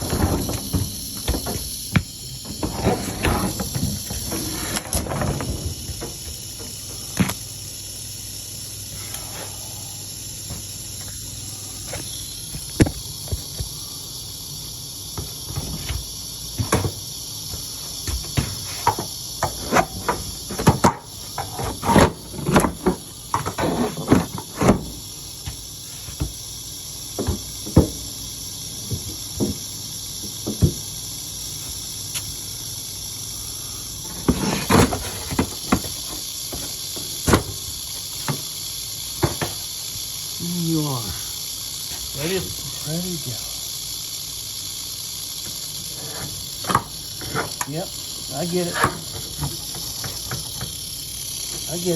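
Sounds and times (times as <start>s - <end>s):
rattlesnake rattling: 0.0s - 51.9s.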